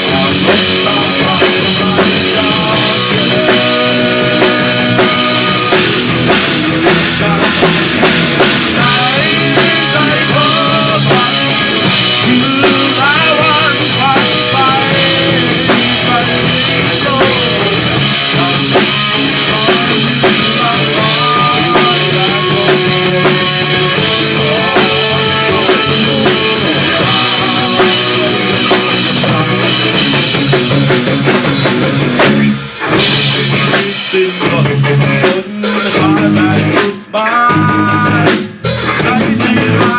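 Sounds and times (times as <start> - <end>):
rock band playing: 0.0 - 39.9
sliding lead guitar line: 0.0 - 39.9.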